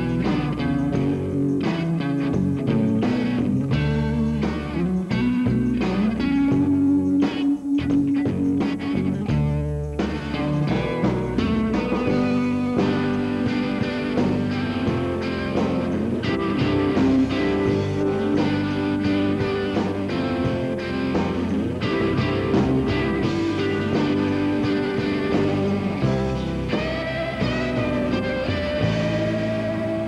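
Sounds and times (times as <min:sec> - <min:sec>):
guitar rock music: 0:00.0 - 0:30.0.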